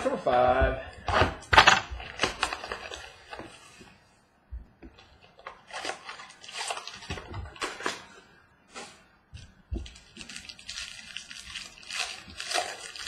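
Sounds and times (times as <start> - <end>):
cardboard and foil rustling: 0.0 - 3.8, 5.0 - 13.0.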